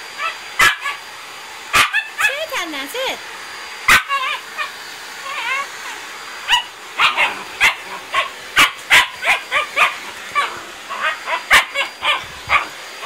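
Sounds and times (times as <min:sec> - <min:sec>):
dog barking and yipping: 0:00.2 - 0:01.0, 0:01.7 - 0:02.6, 0:03.8 - 0:13.0.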